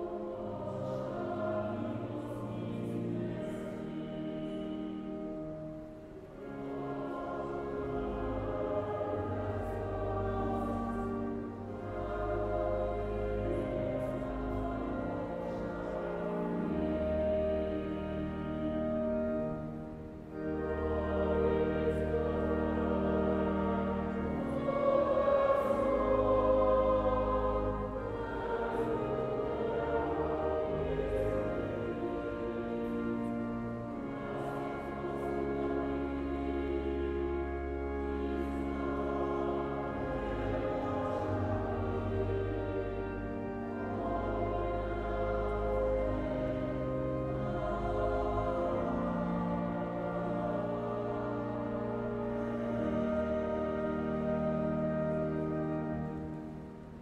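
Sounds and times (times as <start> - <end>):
church choir singing: 0.0 - 57.0
pipe organ bass notes: 0.0 - 57.0.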